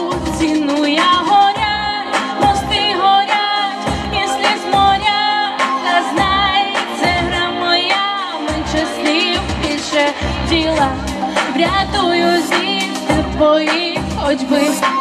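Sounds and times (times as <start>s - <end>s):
backing track: 0.0s - 15.0s
woman singing pop song: 0.0s - 15.0s.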